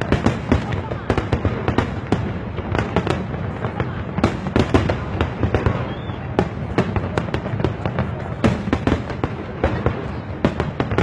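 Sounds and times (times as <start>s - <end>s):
fireworks bangs: 0.0s - 11.0s
low rumble of explosions: 0.0s - 11.0s.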